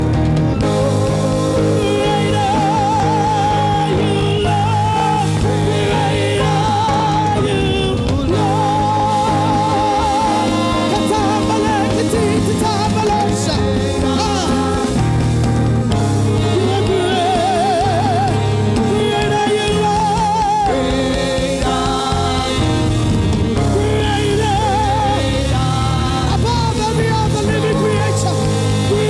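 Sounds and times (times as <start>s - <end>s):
band accompaniment: 0.0s - 29.0s
person singing with vibrato: 0.6s - 29.0s.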